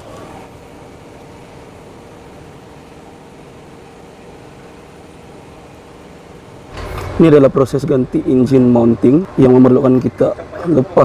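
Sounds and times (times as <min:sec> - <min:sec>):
room tone hum and hiss: 0:00.0 - 0:11.0.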